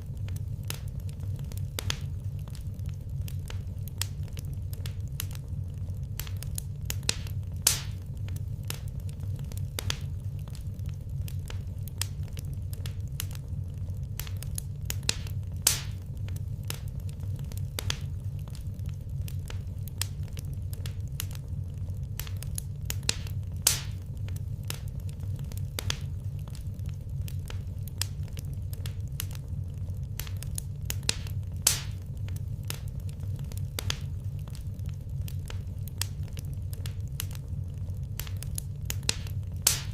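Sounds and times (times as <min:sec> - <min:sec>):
low rumble: 0:00.0 - 0:39.9
wood fire crackling: 0:00.0 - 0:39.9.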